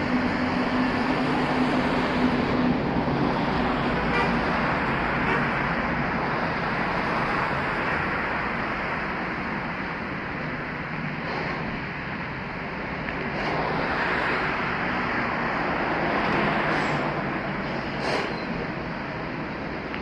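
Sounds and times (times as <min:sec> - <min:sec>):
cars passing: 0:00.0 - 0:20.0
low engine drone: 0:00.0 - 0:20.0.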